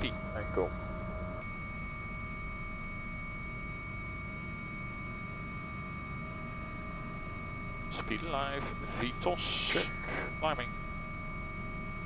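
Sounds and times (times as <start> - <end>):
helicopter engine and rotor rumble: 0.0 - 12.0
high-pitched whining tones: 0.0 - 12.0.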